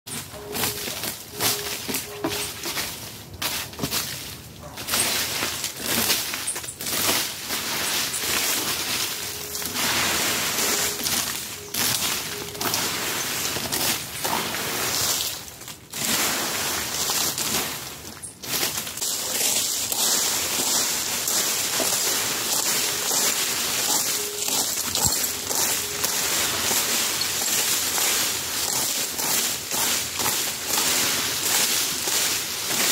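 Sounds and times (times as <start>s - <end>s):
dry leaves rustling: 0.1s - 32.9s
rake scraping over dirt: 0.1s - 32.9s.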